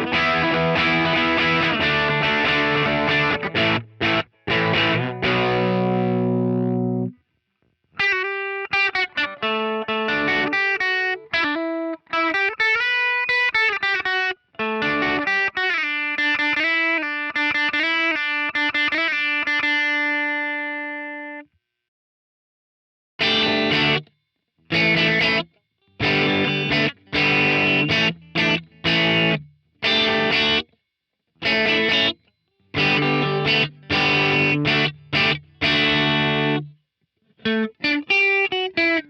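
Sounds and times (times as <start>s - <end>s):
overdriven electric guitar: 0.0s - 7.2s, 8.0s - 21.4s, 23.2s - 24.1s, 24.7s - 30.7s, 31.4s - 39.0s.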